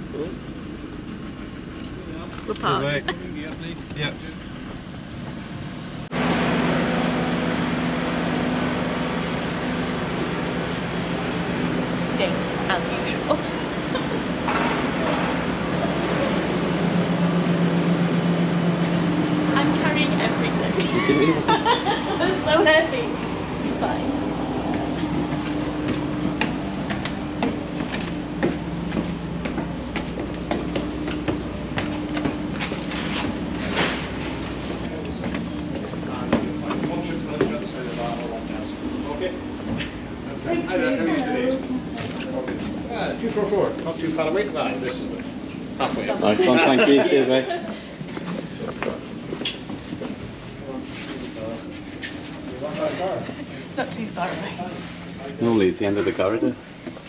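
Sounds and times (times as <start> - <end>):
low engine hum: 0.0 - 57.0
ship machinery rush: 2.6 - 57.0.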